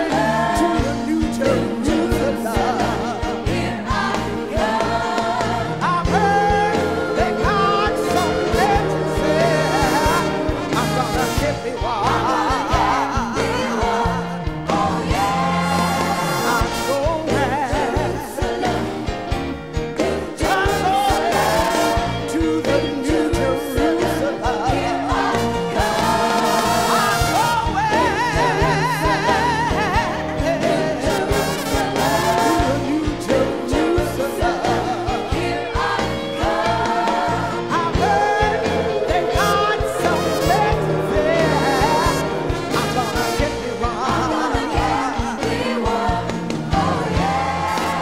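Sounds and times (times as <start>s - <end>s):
band with bass and drums: 0.0s - 48.0s.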